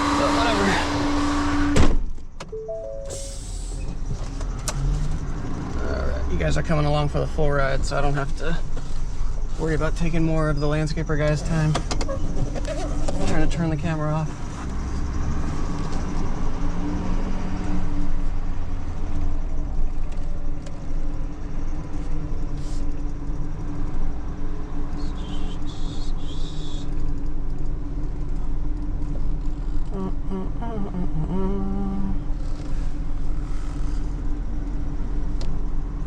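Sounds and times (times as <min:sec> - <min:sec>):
vehicle engine idling: 0:03.2 - 0:16.6, 0:18.0 - 0:36.0.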